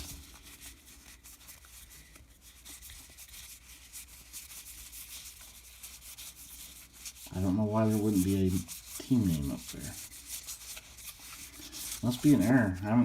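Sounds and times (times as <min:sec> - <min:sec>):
cards rustling and scraping: 0:00.0 - 0:13.0.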